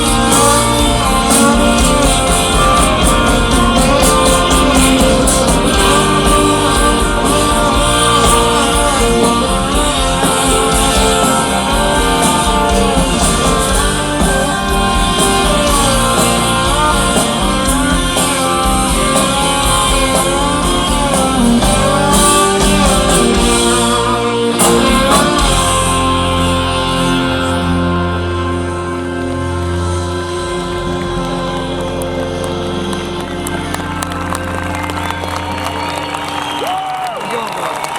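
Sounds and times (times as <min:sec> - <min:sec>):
wordless singing: 0:00.0 - 0:34.2
electric guitar: 0:00.0 - 0:37.9
live rock band playing: 0:00.0 - 0:37.9.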